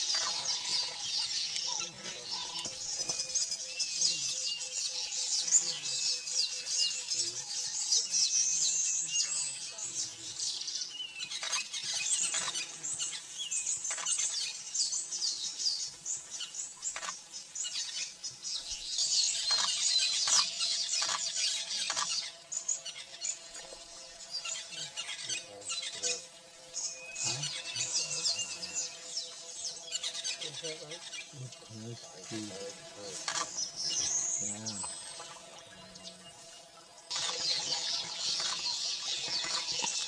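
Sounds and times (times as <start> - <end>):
high-pitched chirping chorus: 0.0 - 40.0.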